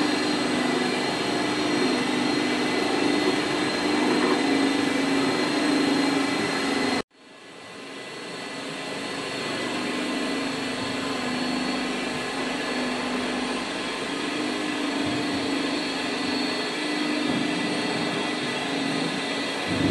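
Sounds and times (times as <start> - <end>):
floor scraper machine drone: 0.0 - 19.9.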